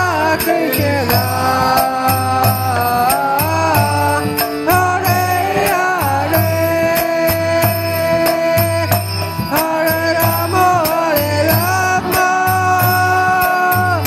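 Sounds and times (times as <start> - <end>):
hand drum beat: 0.0 - 14.0
harmonium chords: 0.0 - 14.0.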